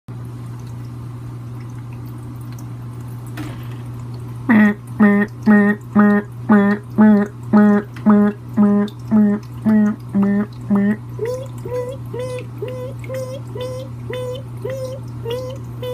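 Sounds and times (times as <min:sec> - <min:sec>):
steady low hum: 0:00.1 - 0:15.9.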